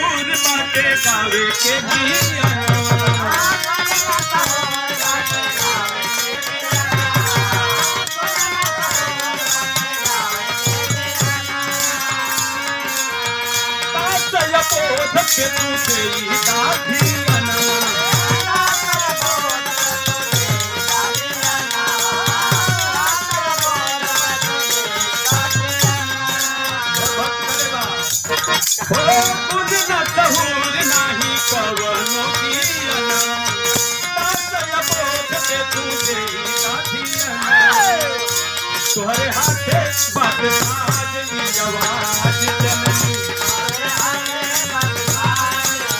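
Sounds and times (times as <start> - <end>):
instrumental accompaniment: 0.0 - 45.9
man singing: 0.0 - 45.9
rattling percussion beat: 0.0 - 45.9.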